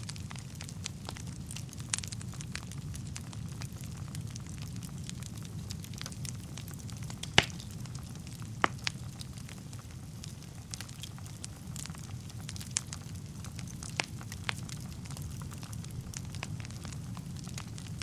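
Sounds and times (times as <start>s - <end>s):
crackles and pops of burning logs: 0.0s - 18.0s
wood fire burning: 0.0s - 18.0s.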